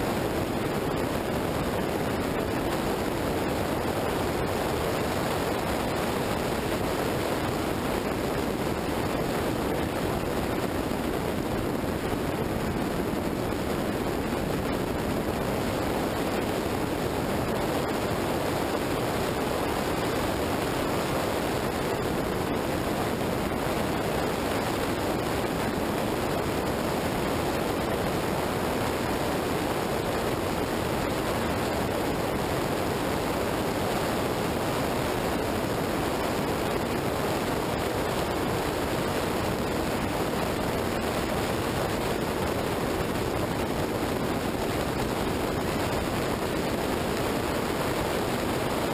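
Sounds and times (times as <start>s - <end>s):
wind blowing over microphone: 0.0s - 48.9s.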